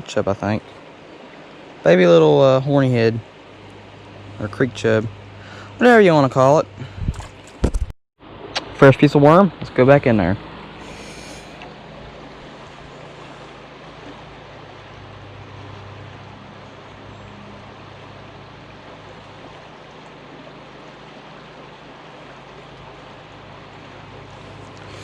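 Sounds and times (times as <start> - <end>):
low steady hum: 0.0 - 25.0
river water flowing: 0.0 - 25.0.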